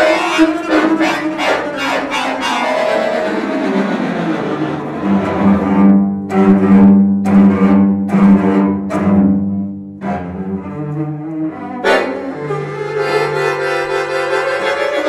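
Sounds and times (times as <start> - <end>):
cello and accordion music: 0.0 - 15.0.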